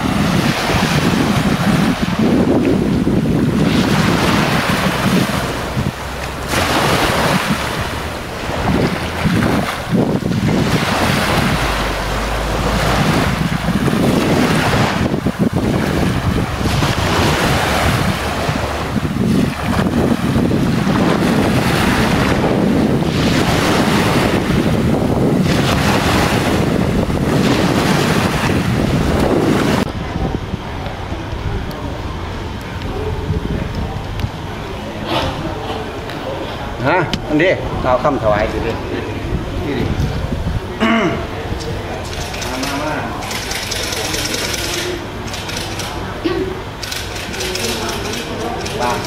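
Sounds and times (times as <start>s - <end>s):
wind buffeting microphone: 0.0s - 46.0s
waves washing up a sandy shore: 0.0s - 49.0s.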